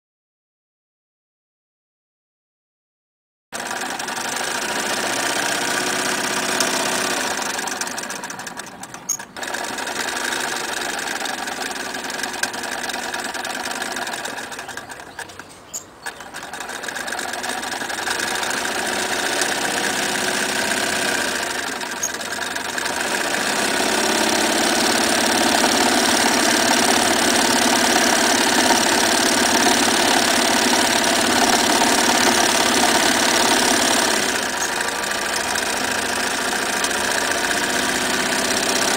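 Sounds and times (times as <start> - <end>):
sewing machine stitching: 3.6 - 38.9.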